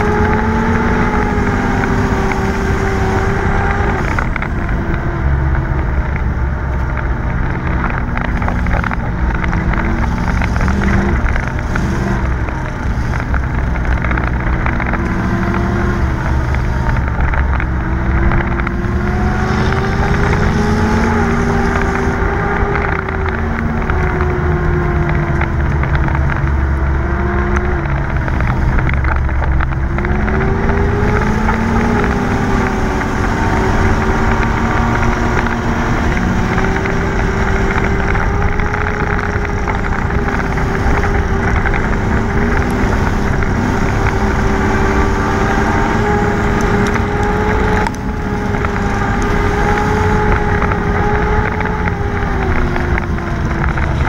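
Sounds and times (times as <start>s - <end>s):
race car engine running hard: 0.0s - 54.0s
tyre and wind rumble: 0.0s - 54.0s.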